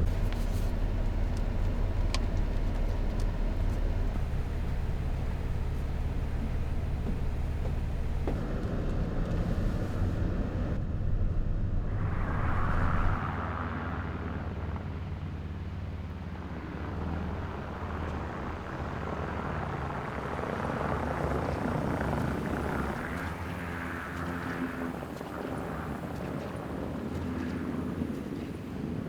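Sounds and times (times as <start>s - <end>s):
van engine and road hum: 0.0s - 29.0s.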